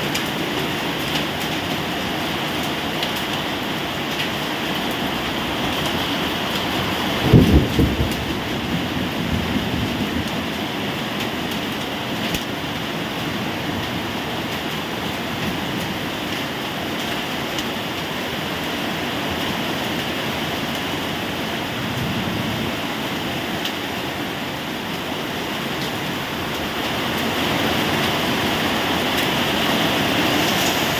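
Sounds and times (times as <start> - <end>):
rain falling steadily: 0.0 - 30.9.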